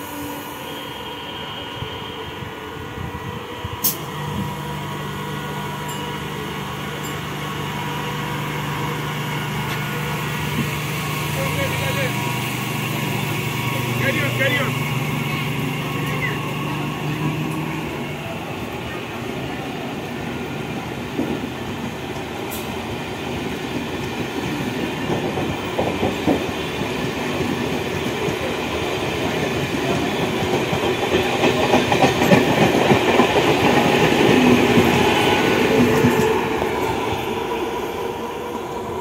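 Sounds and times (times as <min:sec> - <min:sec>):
train rumbling along track: 0:00.0 - 0:39.0.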